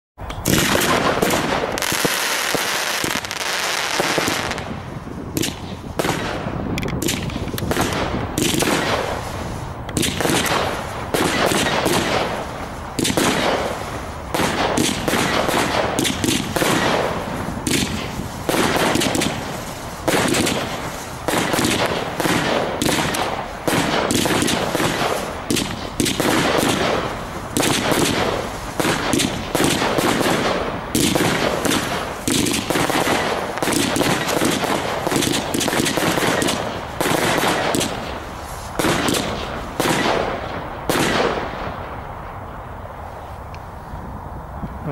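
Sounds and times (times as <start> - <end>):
fireworks launching and bursting: 0.2 - 43.9.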